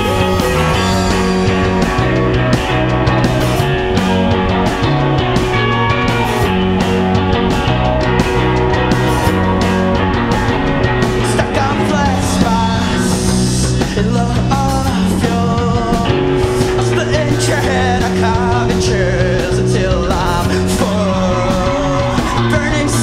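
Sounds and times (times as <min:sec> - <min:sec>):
drums and cymbals: 0:00.0 - 0:23.0
electric guitars: 0:00.0 - 0:23.0.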